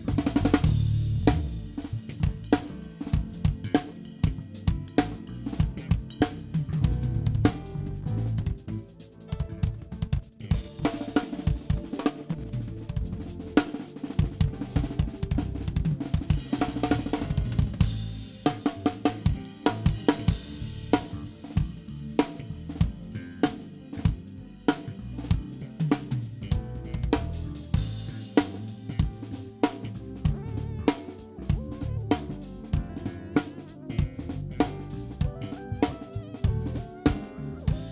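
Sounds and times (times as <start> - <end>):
bass guitar line: 0.0 - 37.9
drum kit playing: 0.0 - 37.9.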